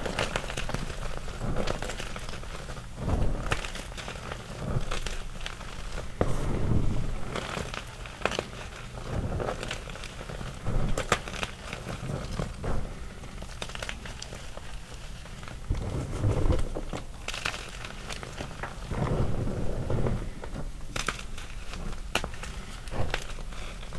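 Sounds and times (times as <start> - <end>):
chalk crumbling by hand: 0.0 - 23.9.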